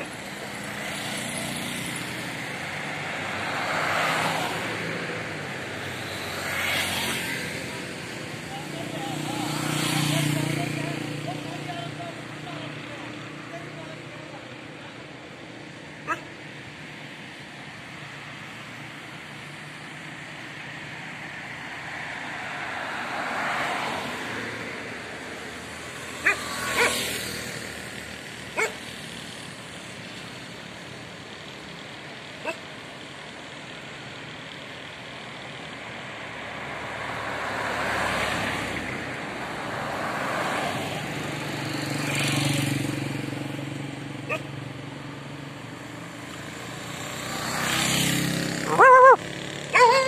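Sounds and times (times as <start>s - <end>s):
vehicles passing: 0.0s - 50.0s.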